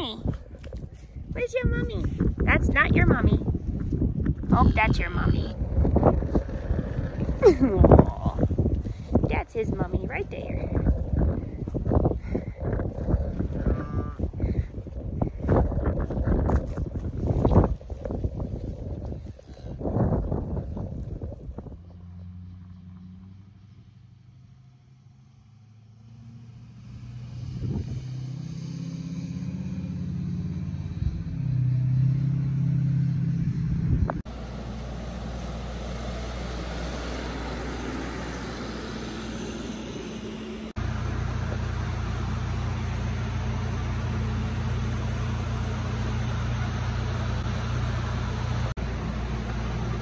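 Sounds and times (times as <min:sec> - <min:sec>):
loud steady low hum: 0:00.0 - 0:21.8, 0:24.8 - 0:31.4, 0:33.2 - 0:50.0
generator droning: 0:00.0 - 0:22.4, 0:24.8 - 0:50.0
truck engine rumble passing: 0:00.0 - 0:50.0.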